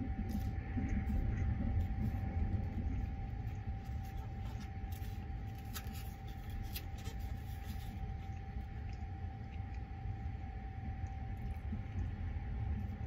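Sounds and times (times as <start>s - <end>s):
faint steady whine: 0.0s - 13.0s
train running low rumble: 0.0s - 13.0s.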